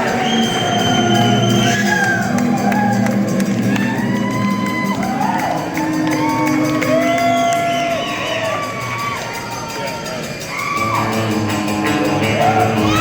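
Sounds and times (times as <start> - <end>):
crowd cheering and whooping: 0.0 - 13.0.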